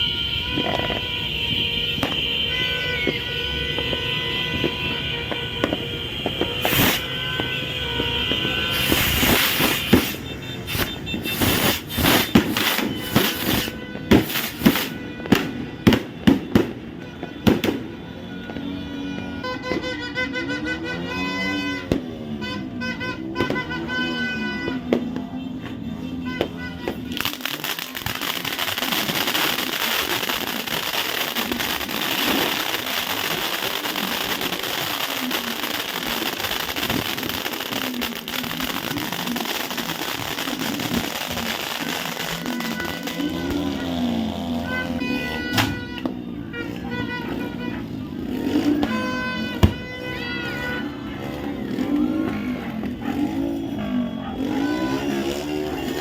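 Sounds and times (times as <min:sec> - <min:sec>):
fireworks crackling and banging: 0:00.2 - 0:20.0, 0:21.8 - 0:56.0.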